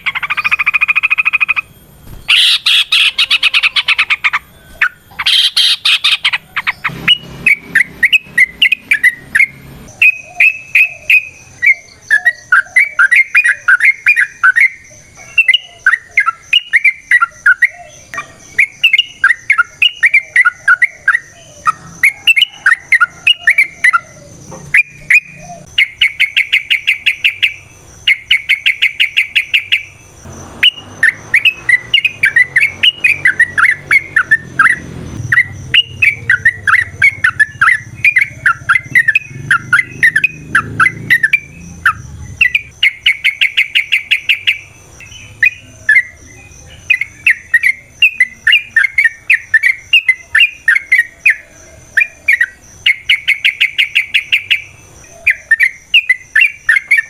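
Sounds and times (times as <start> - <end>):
bulbul song: 0.0 - 57.0.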